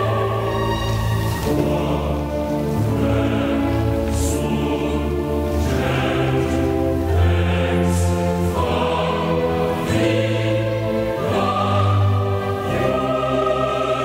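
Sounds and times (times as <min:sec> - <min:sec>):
slow choral music: 0:00.0 - 0:14.0.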